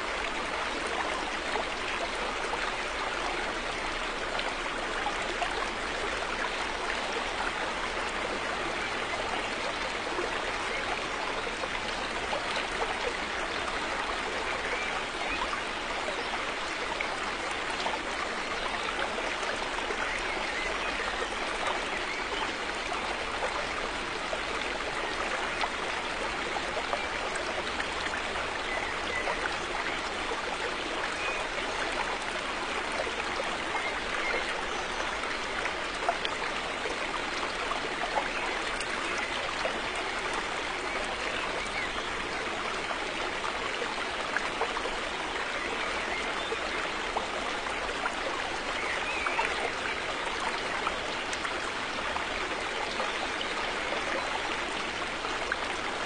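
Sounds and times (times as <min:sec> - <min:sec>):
river water running over rocks: 0:00.0 - 0:56.0.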